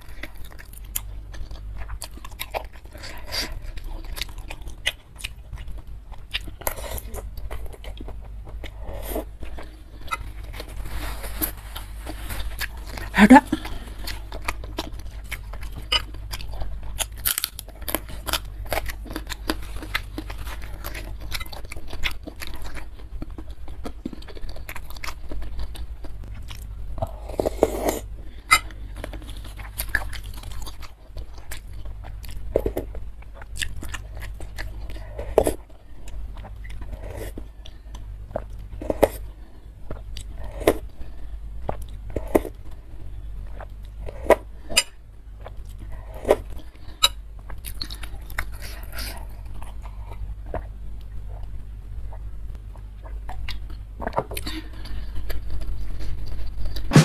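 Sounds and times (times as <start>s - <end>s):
crackers crunching: 0.0s - 51.6s, 52.2s - 57.0s.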